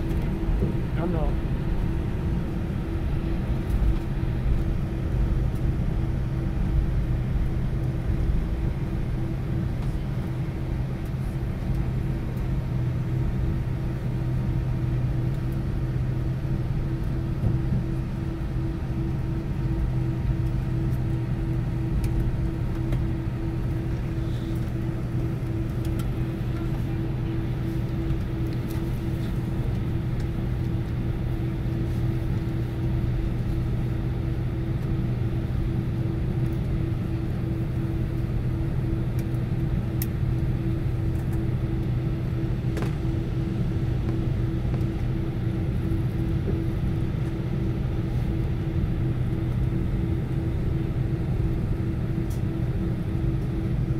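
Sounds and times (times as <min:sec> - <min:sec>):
airplane cabin rumble: 0:00.0 - 0:53.9
jet engine hum tones: 0:00.0 - 0:53.9.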